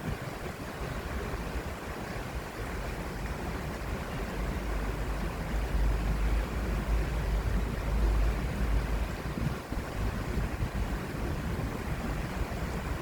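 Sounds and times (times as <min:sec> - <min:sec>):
stream water rushing: 0:00.0 - 0:13.0
wind rumbling on microphone: 0:00.0 - 0:13.0.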